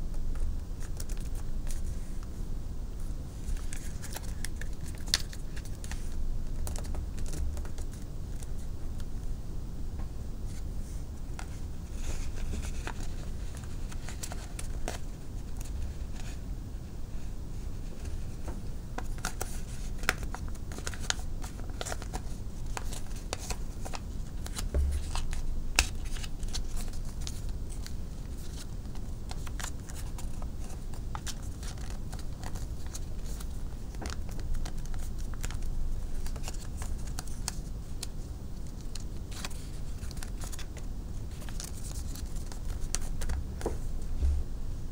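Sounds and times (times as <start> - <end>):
paper crackling and rustling: 0.3 - 2.3, 3.4 - 9.1, 10.4 - 16.4, 17.7 - 44.3.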